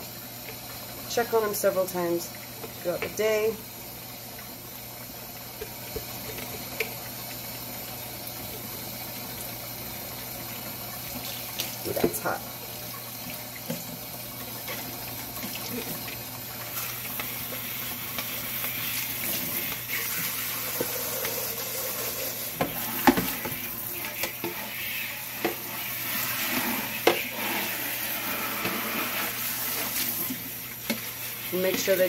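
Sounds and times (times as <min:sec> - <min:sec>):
faucet running into sink: 0:00.0 - 0:32.0.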